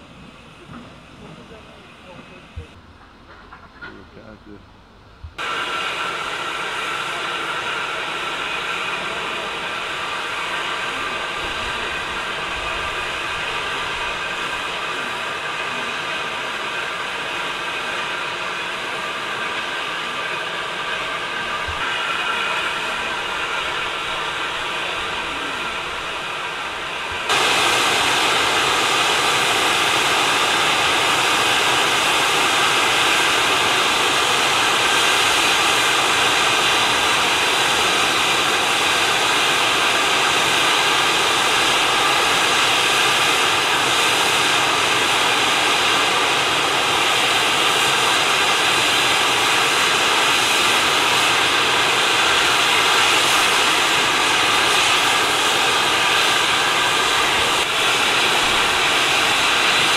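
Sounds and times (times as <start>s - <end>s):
steam locomotive hissing steam: 0.0s - 4.6s, 5.4s - 59.9s.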